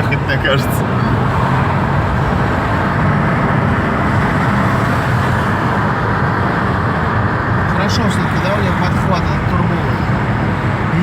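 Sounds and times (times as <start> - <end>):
car engine drone: 0.0 - 11.0
road and tyre noise: 0.0 - 11.0.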